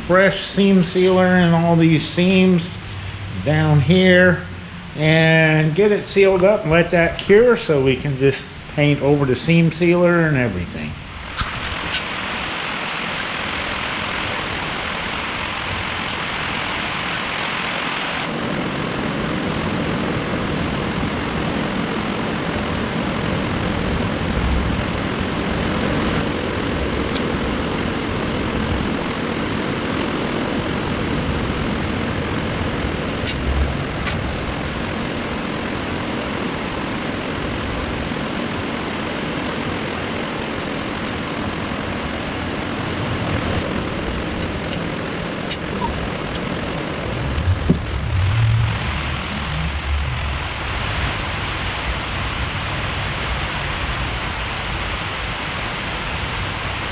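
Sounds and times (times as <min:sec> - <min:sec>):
machine whirring: 0:00.0 - 0:56.9.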